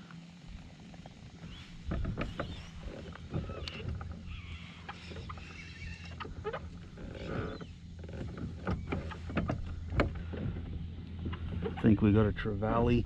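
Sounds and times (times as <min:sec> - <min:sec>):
steady low hum: 0:00.0 - 0:13.0
kayak knocks and creaks: 0:00.9 - 0:13.0.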